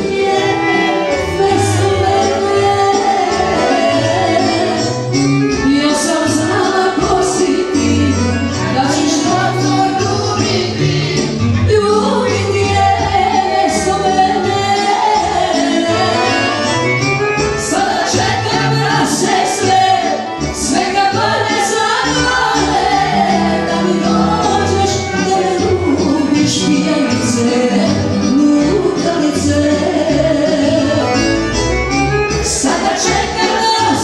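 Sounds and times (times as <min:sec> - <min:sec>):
woman singing into a microphone: 0:00.0 - 0:16.6, 0:17.6 - 0:31.3, 0:32.4 - 0:34.0
live band playing: 0:00.0 - 0:34.0.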